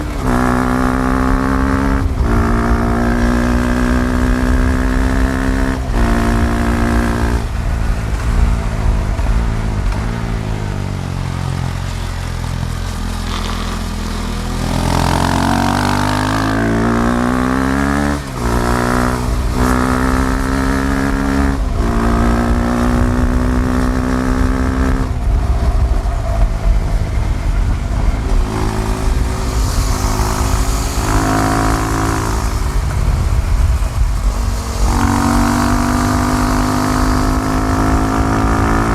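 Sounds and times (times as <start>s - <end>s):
low wind rumble: 0.0s - 38.9s
motorcycle engine revving: 0.0s - 38.9s.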